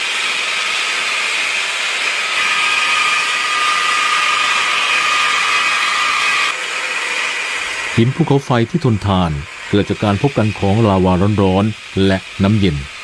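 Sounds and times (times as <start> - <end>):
high steady saw whine: 0.0 - 13.0
stone saw blade and water hiss: 0.0 - 13.0.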